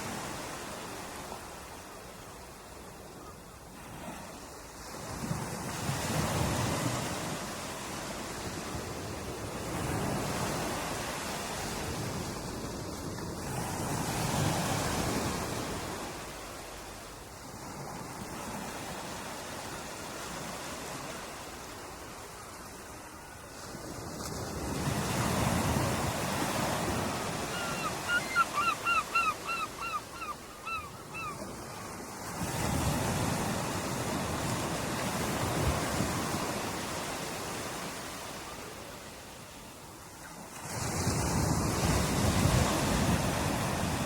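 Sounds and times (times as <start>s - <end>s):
waves breaking: 3.7s - 44.0s.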